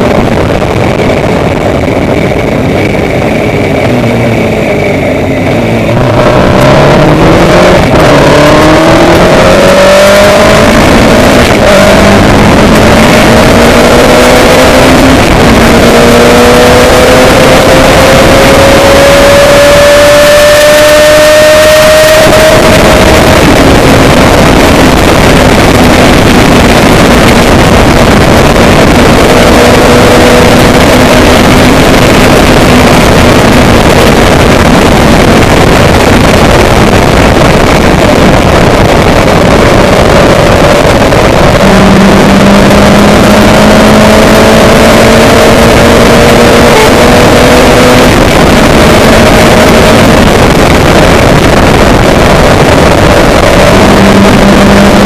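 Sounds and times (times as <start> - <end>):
vehicle engine revving: 0.0 - 55.0
wind rush: 0.0 - 55.0.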